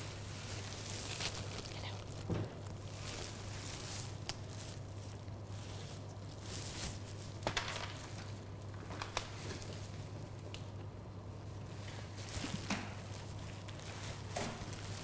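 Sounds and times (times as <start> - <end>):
plastic apron rustling: 0.0 - 10.3, 11.5 - 15.0
steady low hum: 0.0 - 15.0.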